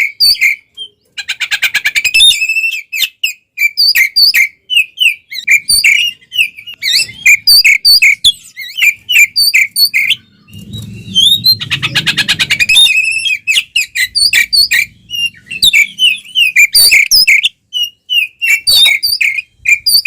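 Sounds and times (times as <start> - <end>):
bird singing whistled notes and trills: 0.0 - 20.0.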